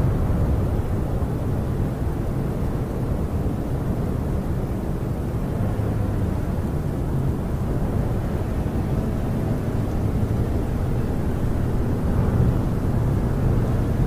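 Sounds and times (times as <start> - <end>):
wind blowing against a camper: 0.0 - 14.0.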